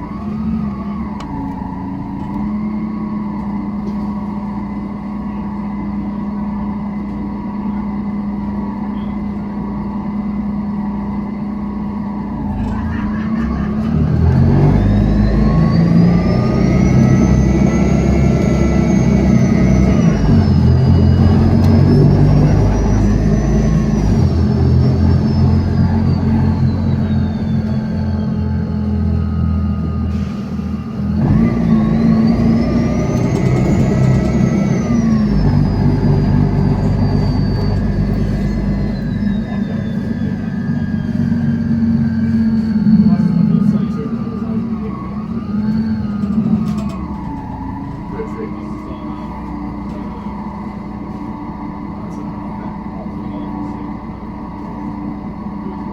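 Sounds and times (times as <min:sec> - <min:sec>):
bus engine pulling away: 0:00.0 - 0:55.9
rising engine whine: 0:00.0 - 0:55.9.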